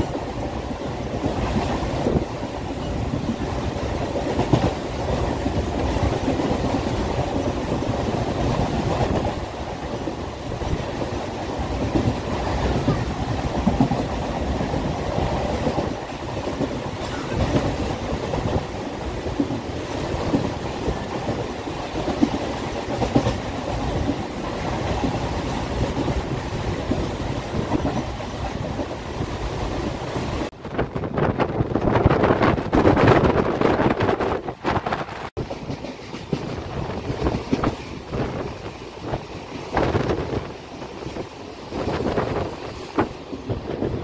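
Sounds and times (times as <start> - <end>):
train wheels clattering on rails: 0.0 - 44.0.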